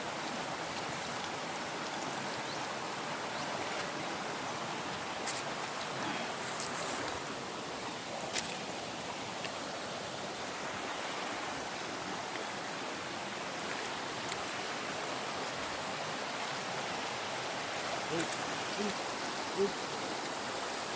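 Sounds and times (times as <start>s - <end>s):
flowing water rushing: 0.0s - 20.9s.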